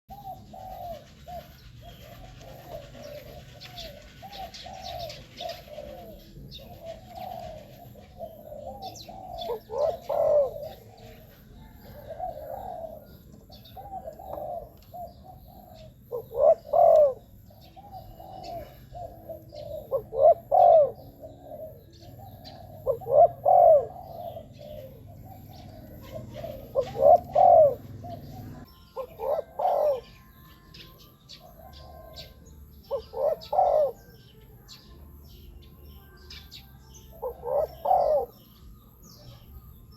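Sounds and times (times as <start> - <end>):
dove cooing: 0.1 - 39.8.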